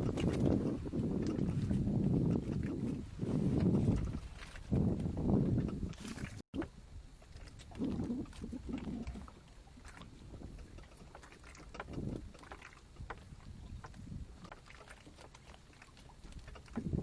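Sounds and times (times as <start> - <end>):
water rumbling against boat hull: 0.0 - 17.0.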